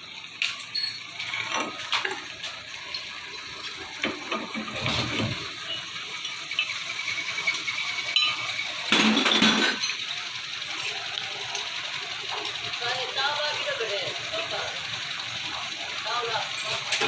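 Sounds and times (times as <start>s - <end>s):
metal clinking at a lathe: 0.4s - 3.2s, 5.6s - 17.0s.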